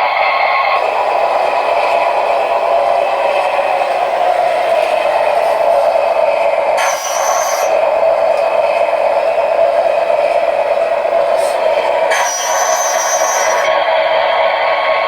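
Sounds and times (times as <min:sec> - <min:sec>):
model truck drone: 0:00.0 - 0:15.0.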